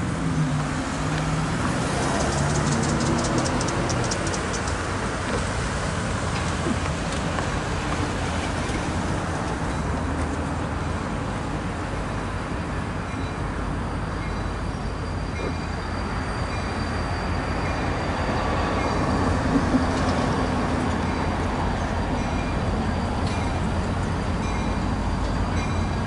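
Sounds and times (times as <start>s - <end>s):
wheels rolling on rails: 0.0s - 12.2s, 13.0s - 26.0s
diesel locomotive engine rumble: 0.0s - 26.0s.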